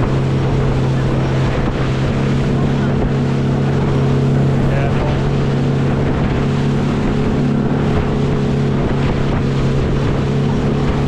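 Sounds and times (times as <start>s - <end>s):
boat engine running: 0.0s - 11.0s
rushing water: 0.0s - 11.0s
wind on microphone: 0.0s - 11.0s.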